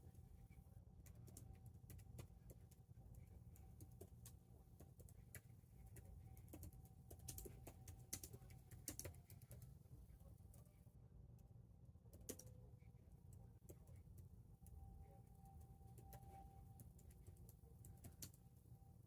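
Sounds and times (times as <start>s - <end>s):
faint irregular clicks: 0.0s - 10.8s, 12.1s - 18.4s
low steady hum: 0.0s - 19.0s.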